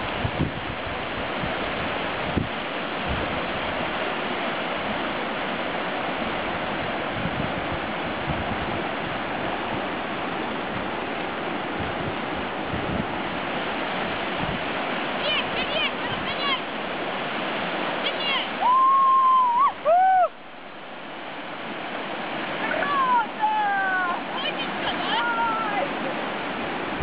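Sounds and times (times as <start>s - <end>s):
river whitewater rushing: 0.0s - 27.0s.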